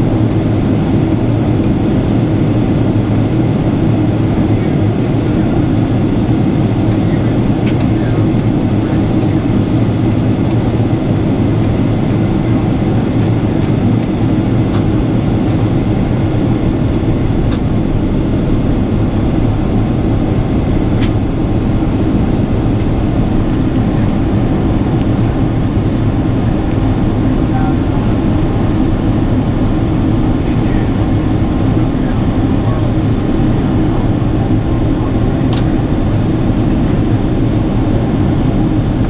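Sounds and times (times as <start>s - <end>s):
airflow over fuselage: 0.0s - 39.0s
jet engine drone in cabin: 0.0s - 39.0s.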